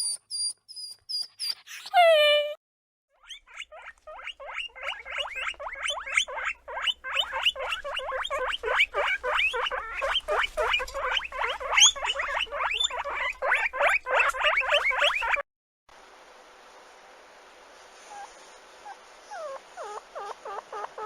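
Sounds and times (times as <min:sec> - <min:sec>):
guinea pig squealing: 0:00.0 - 0:15.4, 0:18.1 - 0:21.0.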